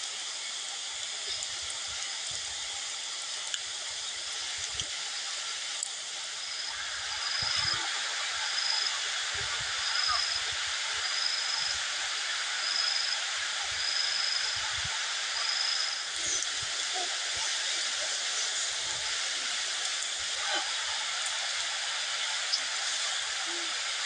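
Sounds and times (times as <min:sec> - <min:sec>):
running water hiss: 0:00.0 - 0:24.0.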